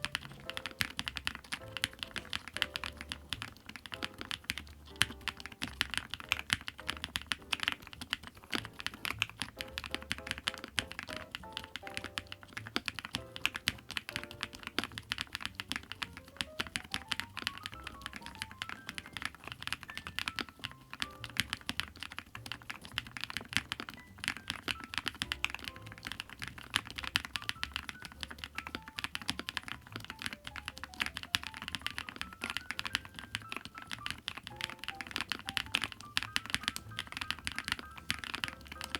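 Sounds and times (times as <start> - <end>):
background music: 0.0 - 38.9
mechanical keyboard typing: 0.0 - 38.9.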